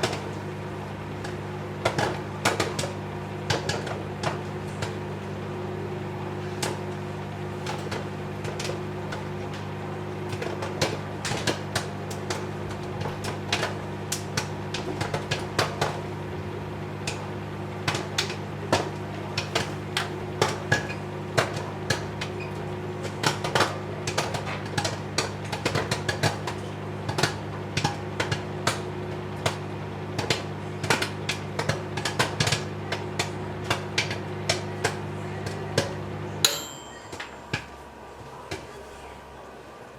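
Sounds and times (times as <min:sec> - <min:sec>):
popcorn popping: 0:00.0 - 0:38.7
microwave oven hum: 0:00.0 - 0:39.9.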